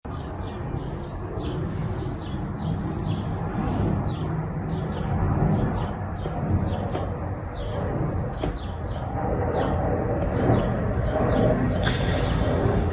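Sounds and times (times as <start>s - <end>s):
birds chirping: 0.1s - 12.9s.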